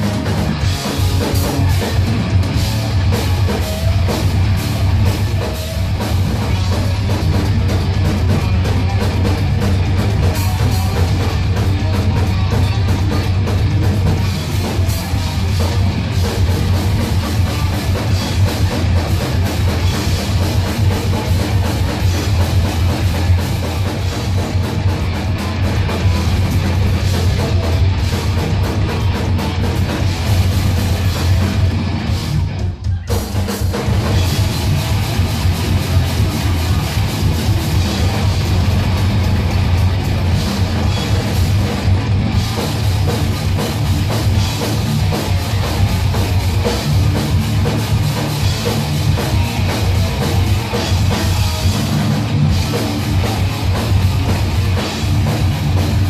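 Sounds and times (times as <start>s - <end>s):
bass guitar: 0.0s - 56.0s
distorted electric guitars: 0.0s - 56.0s
fast drumming: 0.0s - 56.0s.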